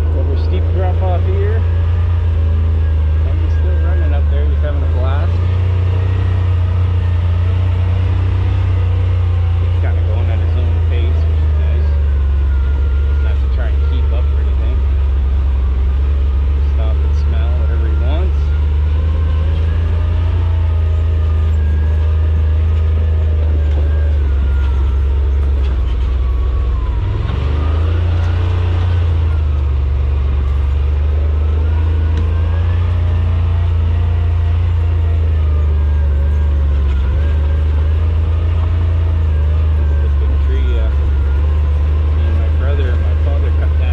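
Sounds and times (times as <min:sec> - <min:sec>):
utility vehicle engine running: 0:00.0 - 0:43.9.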